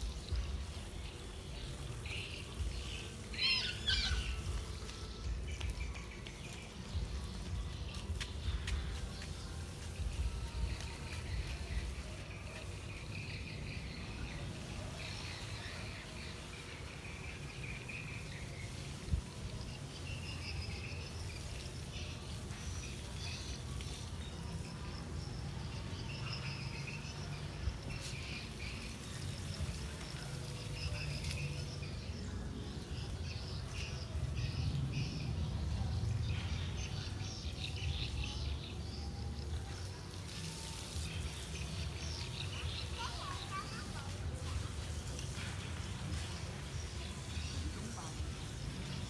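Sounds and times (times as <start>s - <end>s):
birds and insects chirping: 0.0s - 49.0s.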